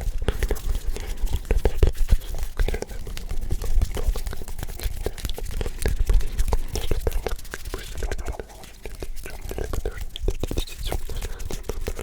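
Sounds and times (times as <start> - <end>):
hands rubbing near microphone: 0.0 - 12.0.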